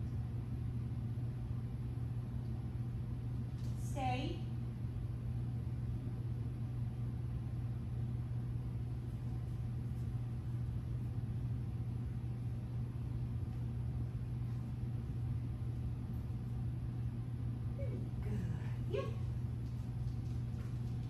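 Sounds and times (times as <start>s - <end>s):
ventilation fan hum: 0.0s - 21.0s.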